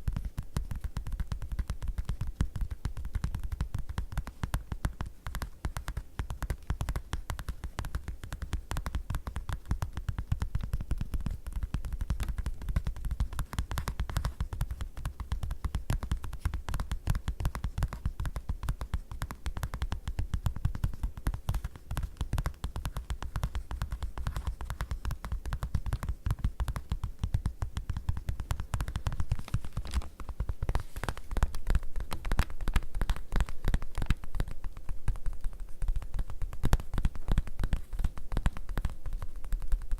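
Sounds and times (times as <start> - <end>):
fingers tapping on leather: 0.0 - 39.9.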